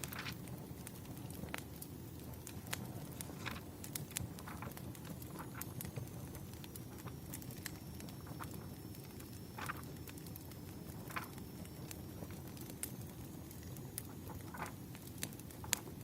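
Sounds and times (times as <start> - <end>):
low background noise: 0.0 - 16.0
wood fire crackling: 0.0 - 16.0.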